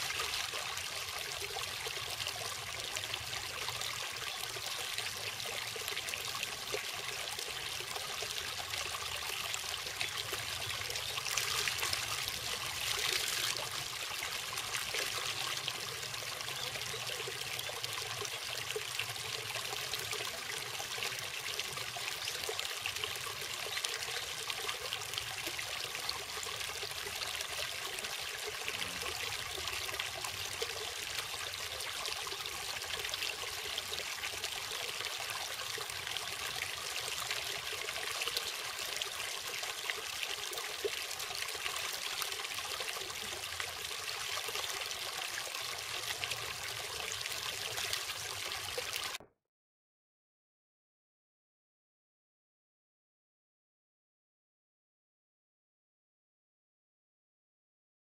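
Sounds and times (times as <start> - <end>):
water pouring over weir: 0.0 - 49.2.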